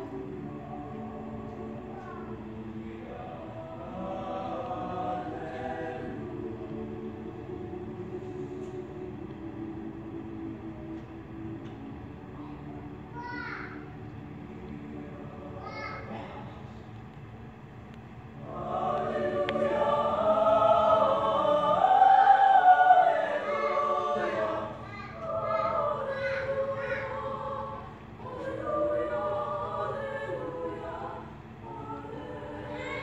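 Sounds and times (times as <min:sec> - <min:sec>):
mixed choir singing: 0:00.0 - 0:17.0, 0:18.3 - 0:33.0.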